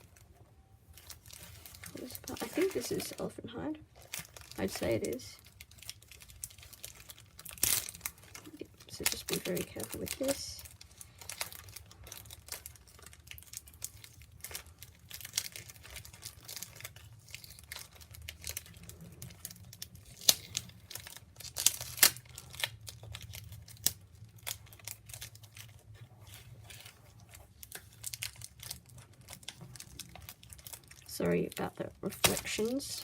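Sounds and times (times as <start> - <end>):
packaging crinkling and tearing: 0.0 - 33.0.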